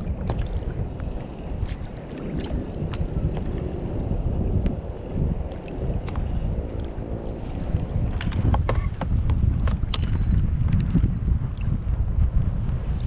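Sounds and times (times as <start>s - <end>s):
water lapping against kayak: 0.0s - 13.0s
wind buffeting microphone: 0.0s - 13.0s.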